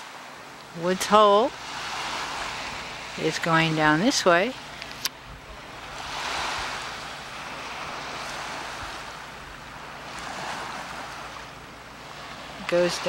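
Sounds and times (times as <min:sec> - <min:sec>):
small waves washing onto shore: 0:00.0 - 0:13.0.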